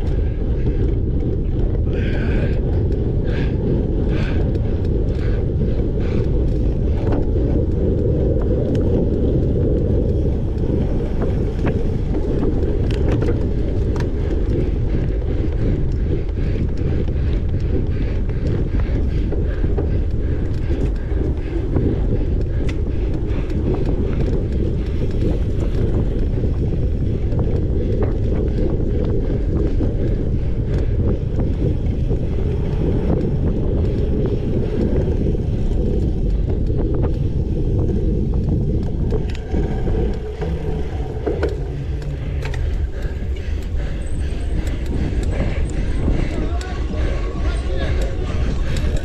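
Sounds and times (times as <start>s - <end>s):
bike clicks and rattles: 0.0s - 49.0s
wind buffeting microphone: 0.0s - 49.0s.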